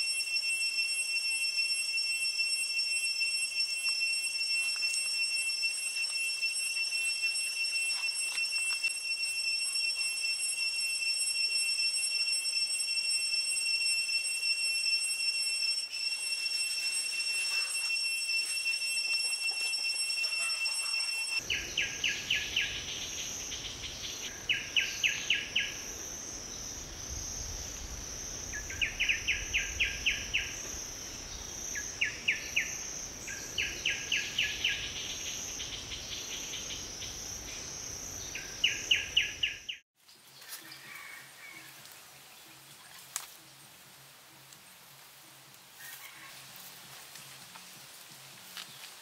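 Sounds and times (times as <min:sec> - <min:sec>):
insects buzzing: 0:00.0 - 0:39.7
rapid insect chirps: 0:00.0 - 0:39.8.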